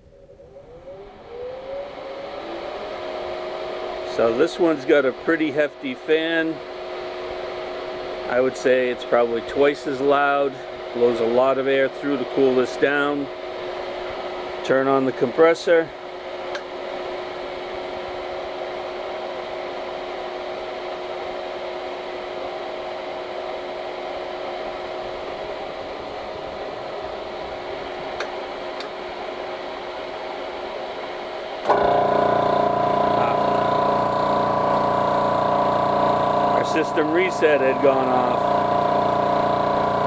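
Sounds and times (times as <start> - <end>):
cooling fan humming: 0.0 - 40.0
air compressor pump running: 0.6 - 40.0.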